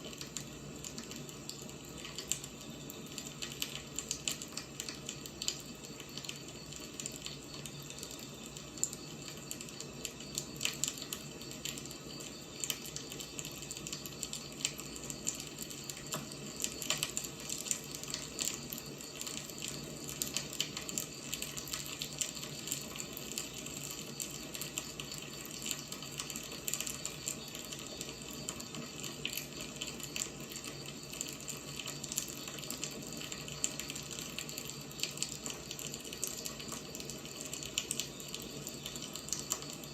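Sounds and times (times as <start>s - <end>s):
fire crackles and pops: 0.0s - 39.9s
wood fire hissing: 0.0s - 39.9s.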